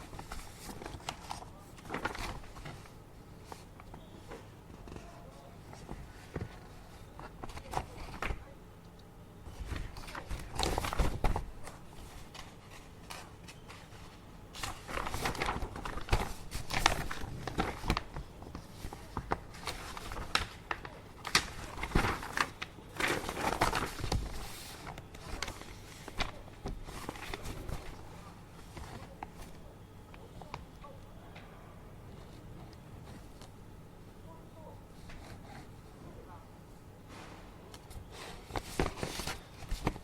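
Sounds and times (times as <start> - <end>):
paper rustling: 0.0 - 8.5, 9.5 - 30.9, 37.1 - 40.0.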